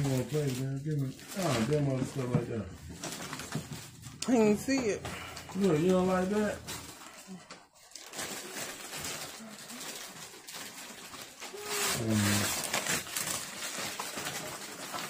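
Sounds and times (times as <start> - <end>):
wrapping paper rustling and tearing: 0.0 - 15.0.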